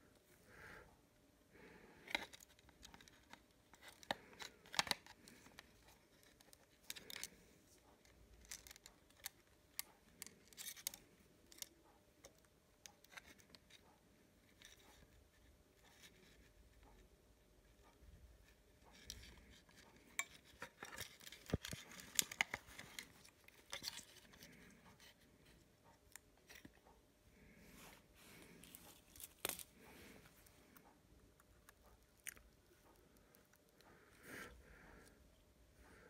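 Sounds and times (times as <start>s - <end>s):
small handling clicks and scrapes: 2.0s - 33.9s.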